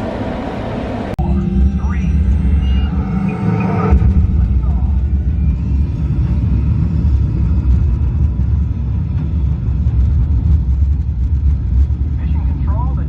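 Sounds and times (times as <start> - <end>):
low rumble in simulator capsule: 0.0 - 13.0.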